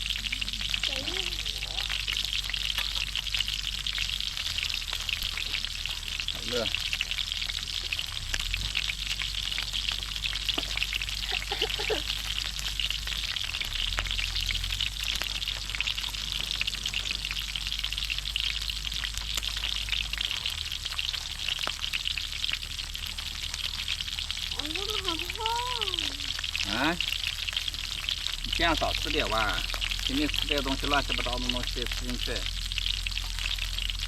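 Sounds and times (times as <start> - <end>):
pork sizzling in a hot pan: 0.0 - 34.0.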